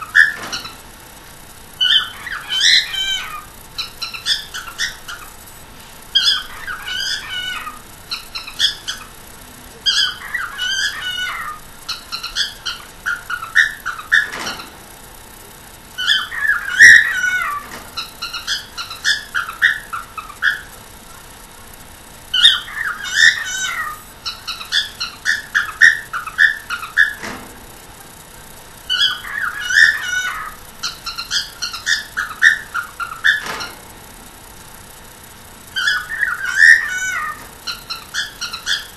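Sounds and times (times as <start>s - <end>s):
cockatiel chattering: 0.0s - 0.9s, 1.8s - 5.5s, 6.1s - 14.8s, 16.0s - 21.3s, 22.3s - 27.4s, 28.8s - 33.8s, 35.7s - 38.9s.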